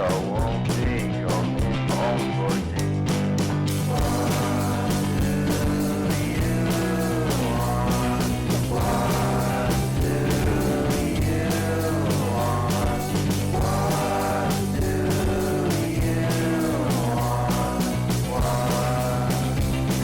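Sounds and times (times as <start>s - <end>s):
rock song with guitar and vocals: 0.0s - 20.0s.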